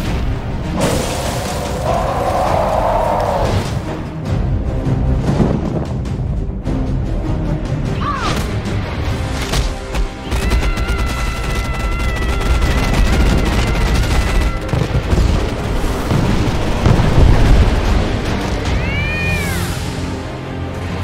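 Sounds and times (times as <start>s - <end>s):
dramatic action music: 0.0s - 21.0s.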